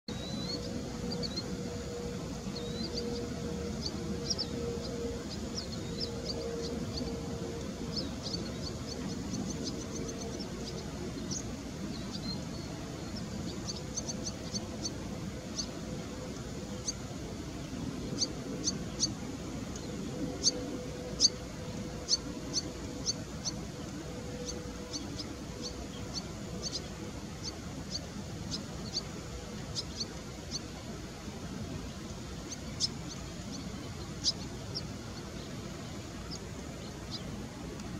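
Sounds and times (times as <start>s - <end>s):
birds high-pitched calls: 0.1s - 37.9s
steady low hum: 0.1s - 37.9s.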